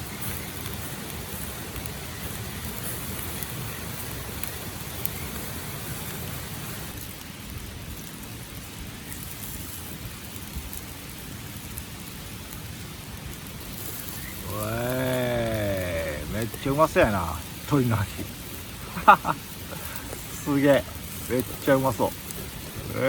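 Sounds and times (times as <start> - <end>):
campfire crackles: 0.0 - 23.0
meat sizzling on a grill: 0.0 - 23.0.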